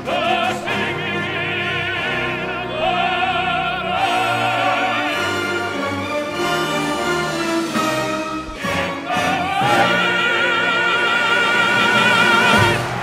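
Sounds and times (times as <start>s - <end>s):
operatic voice singing: 0.0s - 6.2s, 8.5s - 13.0s
orchestral accompaniment: 0.0s - 13.0s.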